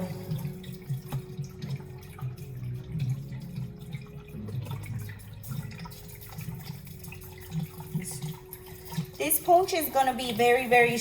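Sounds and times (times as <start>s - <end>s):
liquid pouring and dripping: 0.0s - 11.0s.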